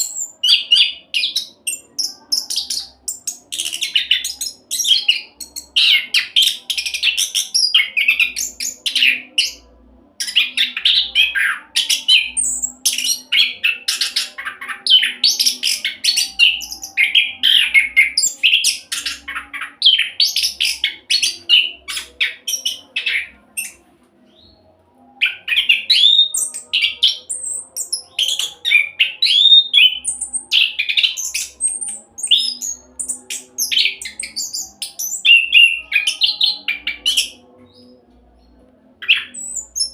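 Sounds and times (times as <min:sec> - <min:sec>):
thrush singing: 0:00.0 - 0:39.9.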